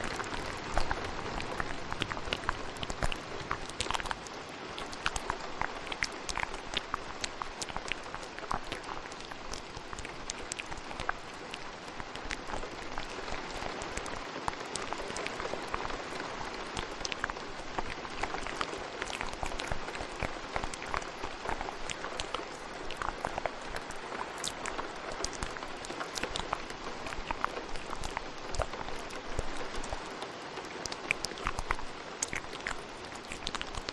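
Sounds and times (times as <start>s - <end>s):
rain hiss: 0.0s - 33.9s
wet mouth clicks and smacks: 0.0s - 33.9s.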